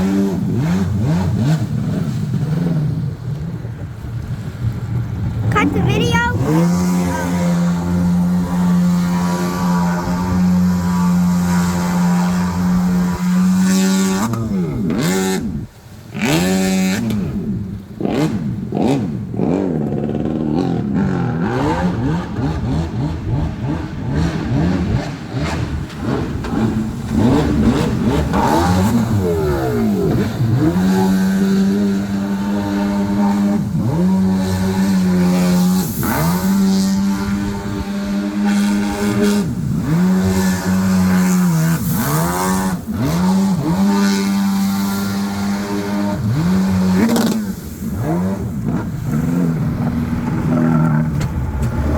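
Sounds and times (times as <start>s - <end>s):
small boat engine revving: 0.0s - 51.9s.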